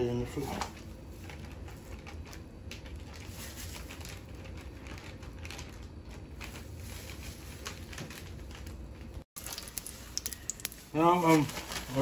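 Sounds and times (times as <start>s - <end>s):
plastic bag crinkling: 1.1s - 12.0s.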